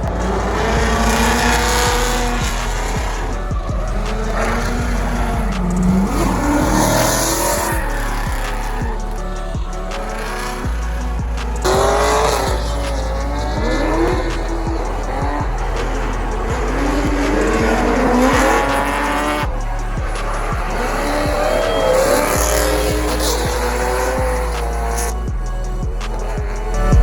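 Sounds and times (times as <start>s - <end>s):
background music with steady beat: 0.0s - 27.0s
car engines revving: 0.0s - 27.0s
tyres squealing: 0.0s - 27.0s.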